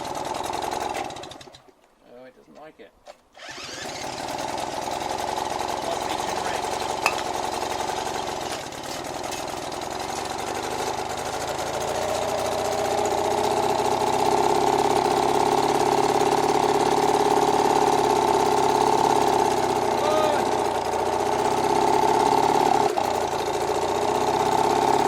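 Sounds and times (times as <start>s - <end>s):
outboard motor running: 0.0s - 1.8s, 3.3s - 25.0s.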